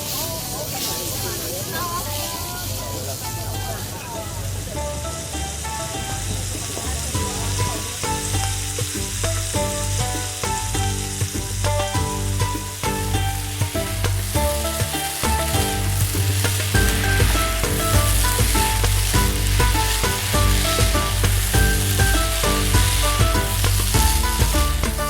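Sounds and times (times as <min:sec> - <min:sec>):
food sizzling on a hot pan: 0:00.0 - 0:25.0
plucked tune with bass: 0:02.8 - 0:25.0
stirring in a pan: 0:04.9 - 0:25.0.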